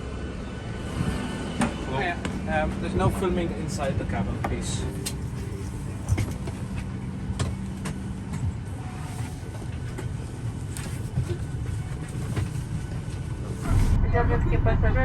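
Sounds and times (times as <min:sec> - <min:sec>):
clicks and knocks of passengers: 0:01.0 - 0:13.9
low rumble of cabin ventilation: 0:02.5 - 0:15.0.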